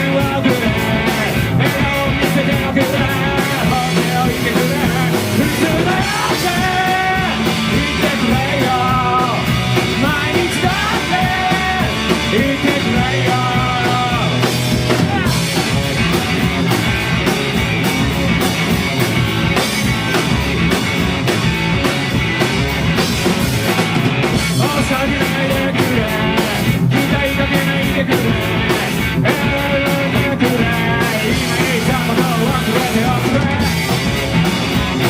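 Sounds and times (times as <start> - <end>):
pounding drums and cymbals: 0.0 - 35.0
rock band playing: 0.0 - 35.0.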